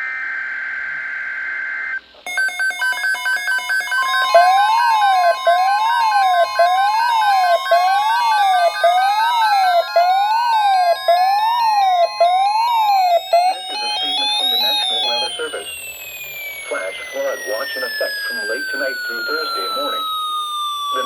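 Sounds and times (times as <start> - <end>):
siren-like sweeping tone: 0.0 - 21.0
data tone burst: 2.3 - 21.0
rapid electronic beeping: 2.3 - 21.0
steady attention tone: 2.3 - 21.0.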